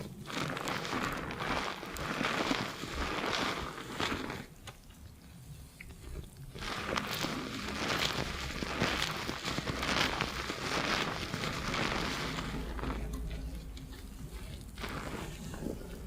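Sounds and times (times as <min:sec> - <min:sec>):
fingertips scrubbing lathered scalp: 0:00.0 - 0:04.6, 0:06.5 - 0:16.0.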